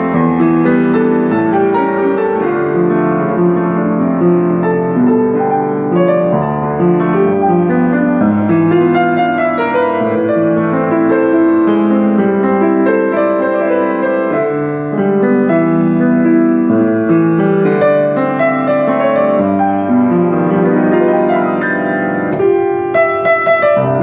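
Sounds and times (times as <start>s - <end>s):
upright piano playing: 0.0s - 24.0s.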